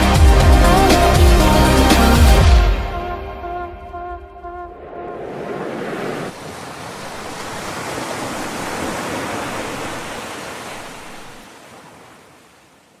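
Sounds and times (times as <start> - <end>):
ocean surf rushing: 0.0 - 12.5.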